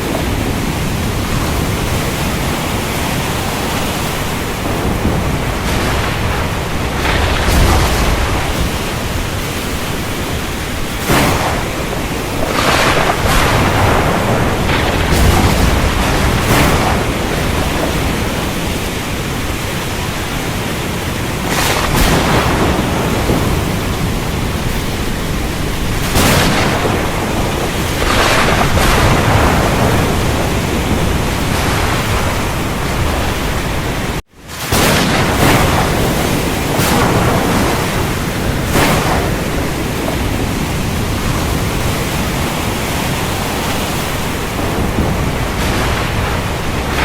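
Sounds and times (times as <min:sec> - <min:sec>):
heavy rain: 0:00.0 - 0:47.0
thunder rumbling: 0:00.0 - 0:47.0.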